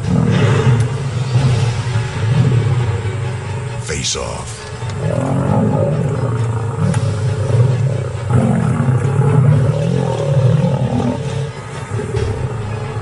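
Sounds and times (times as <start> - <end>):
lions growling deeply: 0.0 - 3.8, 4.6 - 13.0.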